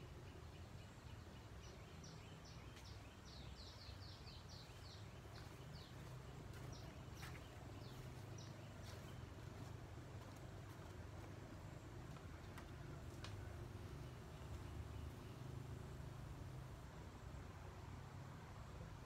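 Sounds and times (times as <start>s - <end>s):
faint bird chirping: 0.0s - 16.4s
low steady hum: 0.0s - 19.0s.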